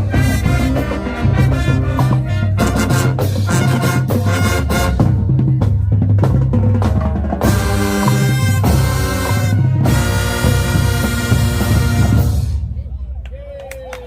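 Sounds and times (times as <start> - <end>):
snare and bass drums beating: 0.0 - 12.6
marching band playing: 0.0 - 12.8.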